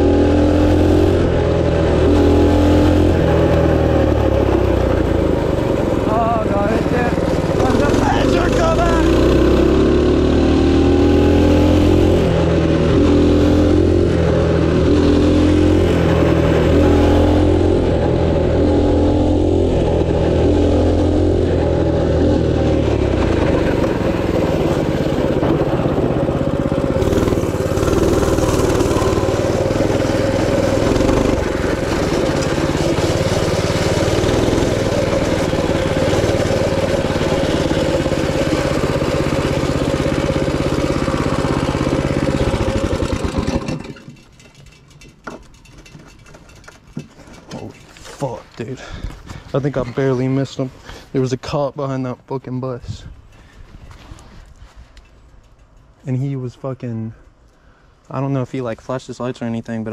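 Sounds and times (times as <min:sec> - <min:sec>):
minibike engine running: 0:00.0 - 0:48.0.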